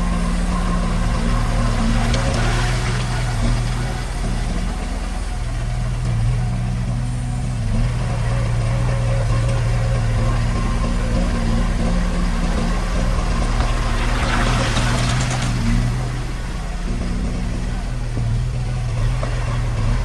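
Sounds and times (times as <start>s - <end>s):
diesel engine running at low revs: 0.0s - 20.0s.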